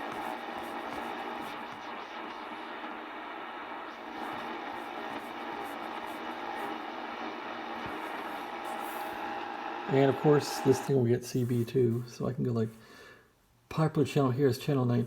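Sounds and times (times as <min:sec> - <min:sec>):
radio static hiss: 0:00.0 - 0:12.6.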